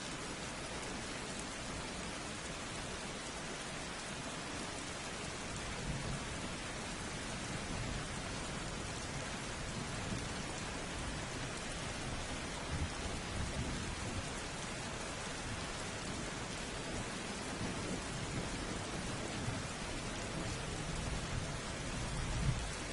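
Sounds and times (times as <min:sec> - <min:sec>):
heavy rain: 0:00.0 - 0:22.9.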